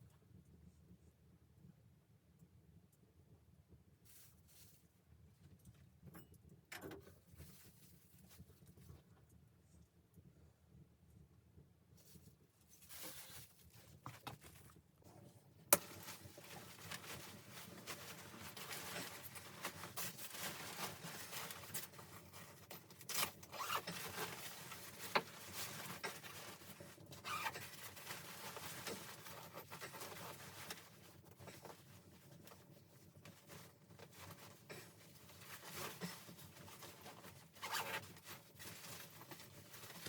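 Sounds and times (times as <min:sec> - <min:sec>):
rustling handling noise: 0:04.0 - 0:05.9, 0:07.1 - 0:09.9, 0:12.0 - 0:40.0.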